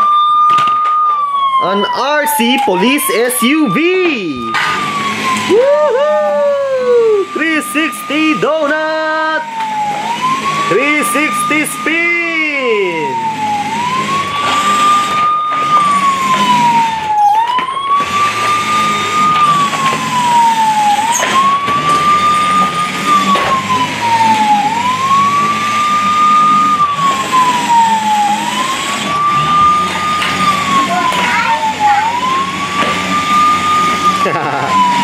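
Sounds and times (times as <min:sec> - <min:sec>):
toy siren wailing: 0:00.0 - 0:35.0.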